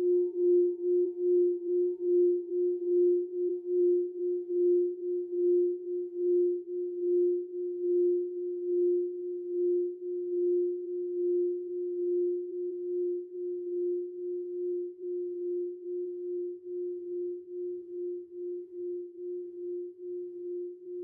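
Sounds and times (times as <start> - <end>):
singing bowl ringing low tone: 0.0 - 21.0.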